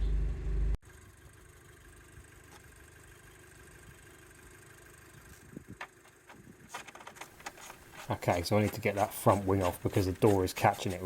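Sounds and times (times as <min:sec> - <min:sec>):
car engine idling rumble: 0:00.0 - 0:10.5.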